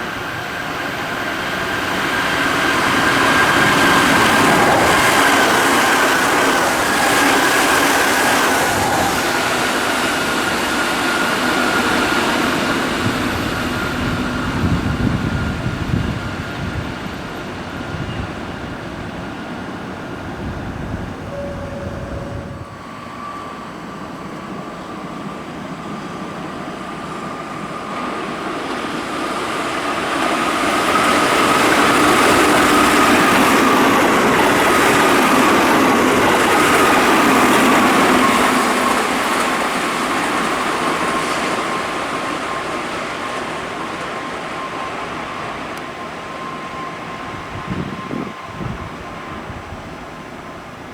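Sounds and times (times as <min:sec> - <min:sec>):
electric train passing: 0:00.0 - 0:50.9
train whine: 0:00.0 - 0:50.9.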